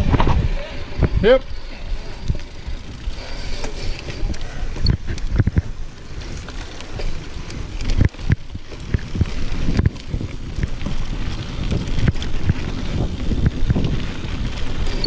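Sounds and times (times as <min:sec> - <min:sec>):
bike tyres rumbling on dirt: 0:00.0 - 0:15.0
wind on microphone: 0:00.0 - 0:15.0.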